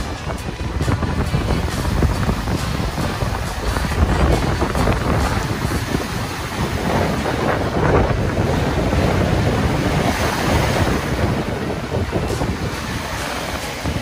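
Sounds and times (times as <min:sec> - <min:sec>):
waves breaking on sand: 0:00.0 - 0:14.0
wind buffeting microphone: 0:00.0 - 0:14.0.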